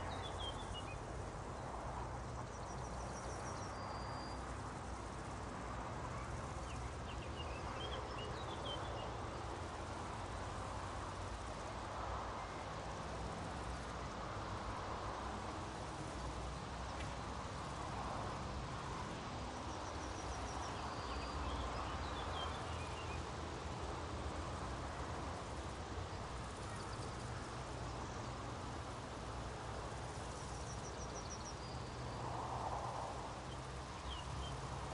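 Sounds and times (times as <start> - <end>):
soft outdoor background noise: 0.0 - 34.9.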